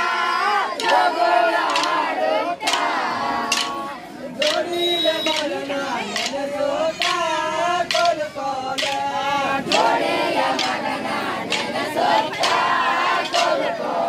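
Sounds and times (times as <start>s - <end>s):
group singing in chorus: 0.0s - 14.0s
sharp percussive strikes: 0.0s - 14.0s.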